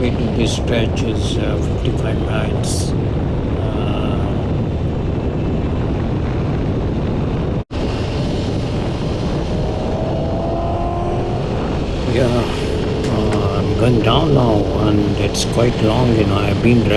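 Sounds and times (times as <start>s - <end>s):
motorcycle engine rumble: 0.0s - 16.9s
wind on microphone: 0.0s - 16.9s.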